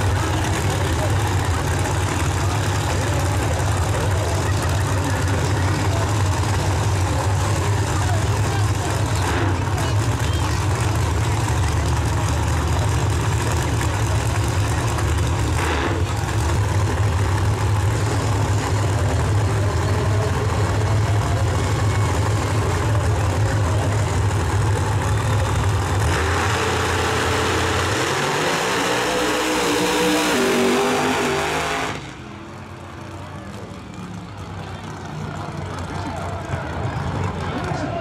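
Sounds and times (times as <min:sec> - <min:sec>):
engines revving up: 0:00.0 - 0:36.0
drag racing engines idling: 0:00.0 - 0:38.0.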